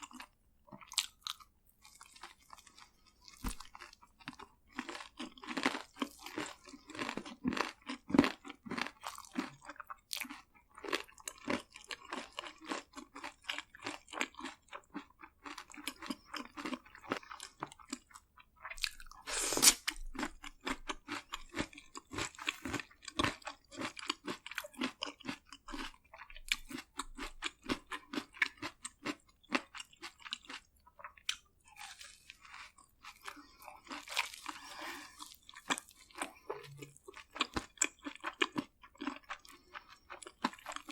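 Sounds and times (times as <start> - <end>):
chewing crisp fried food: 0.0 - 40.9.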